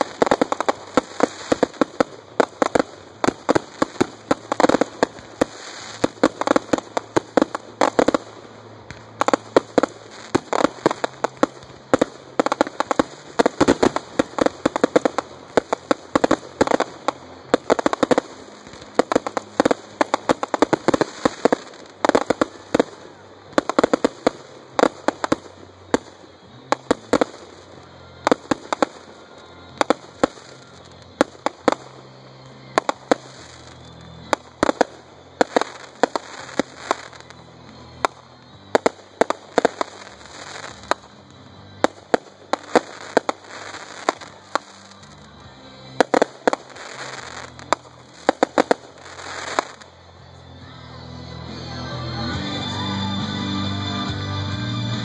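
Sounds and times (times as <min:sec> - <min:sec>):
fireworks bangs: 0:00.0 - 0:50.0
fireworks crackling: 0:00.0 - 0:55.0.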